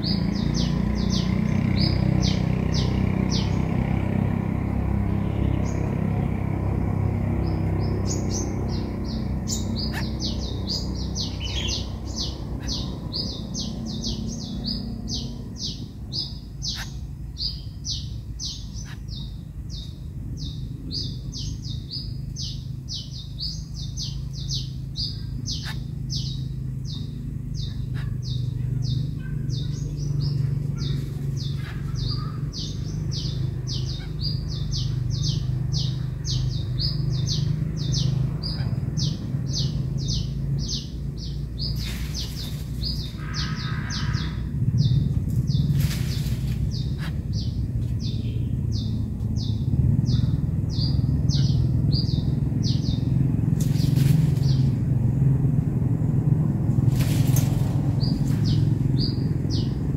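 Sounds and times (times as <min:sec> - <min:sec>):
bird chirping: 0:00.0 - 0:59.9
low steady rumble: 0:00.0 - 0:59.9.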